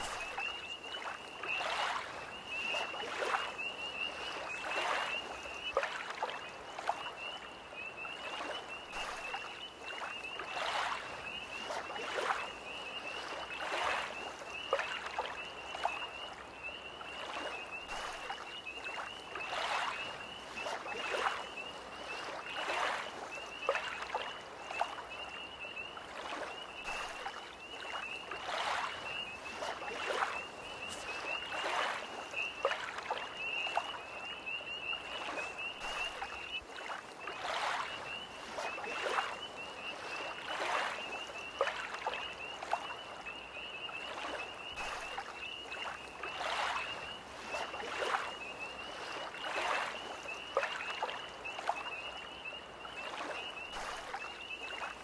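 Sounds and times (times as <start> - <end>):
tree frogs trilling: 0.0 - 55.0
waves lapping against shore: 0.0 - 55.0.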